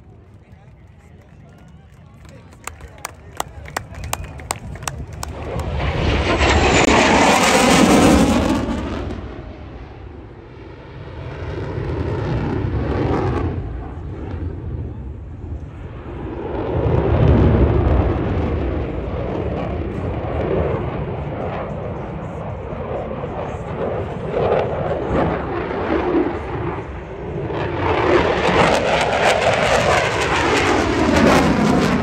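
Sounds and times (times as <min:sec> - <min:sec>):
jet flying past overhead: 0:00.0 - 0:32.0.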